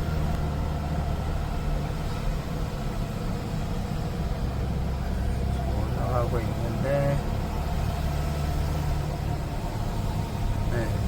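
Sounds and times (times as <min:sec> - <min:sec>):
road noise: 0:00.0 - 0:11.0
truck engine running: 0:00.0 - 0:11.0.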